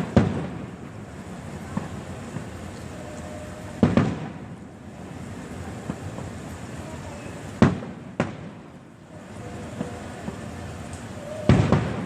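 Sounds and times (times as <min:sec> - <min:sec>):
fireworks bangs echoing: 0:00.0 - 0:12.0
rumble of fireworks display: 0:00.0 - 0:12.0.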